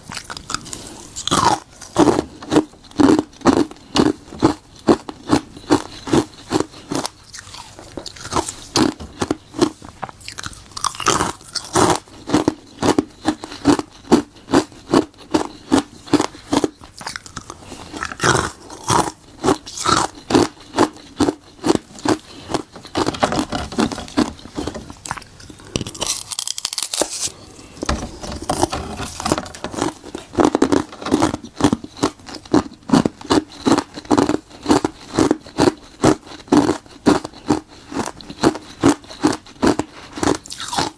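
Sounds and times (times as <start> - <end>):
ice cubes being crunched and chewed: 0.0 - 40.9.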